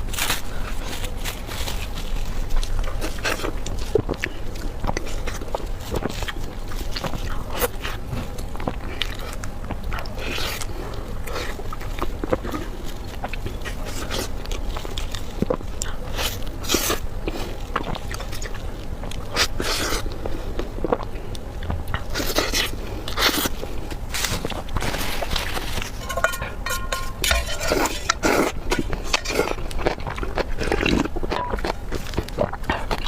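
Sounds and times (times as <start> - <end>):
person biting and chewing food: 0.0 - 33.0.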